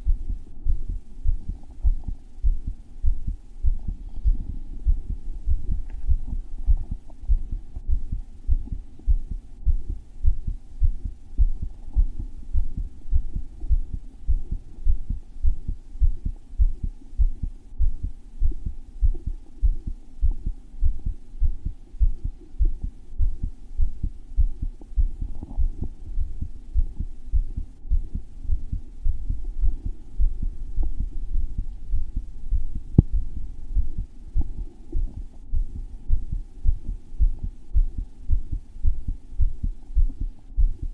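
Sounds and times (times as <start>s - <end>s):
pounding heartbeat: 0.0s - 40.9s.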